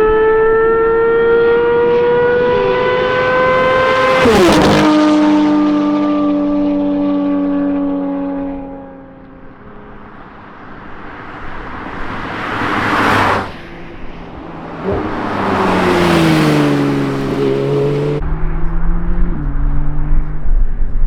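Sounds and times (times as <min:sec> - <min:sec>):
sports cars passing: 0:00.0 - 0:21.0.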